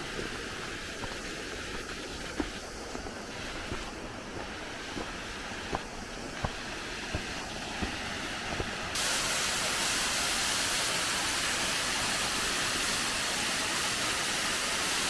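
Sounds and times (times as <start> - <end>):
waterfall splashing on rocks: 0.0 - 15.0.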